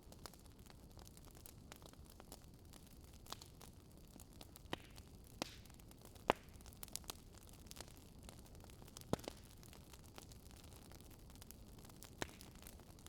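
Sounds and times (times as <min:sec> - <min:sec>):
wood fire popping and snapping: 0:00.0 - 0:13.0.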